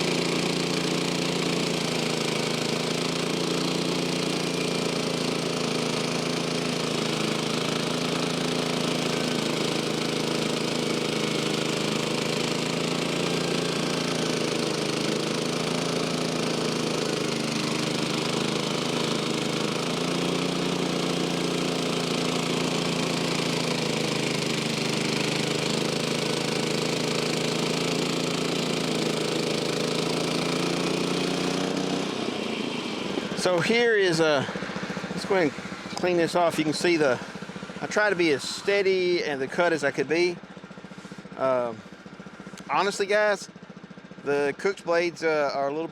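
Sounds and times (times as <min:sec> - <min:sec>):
band sawmill cutting log: 0:00.0 - 0:45.9.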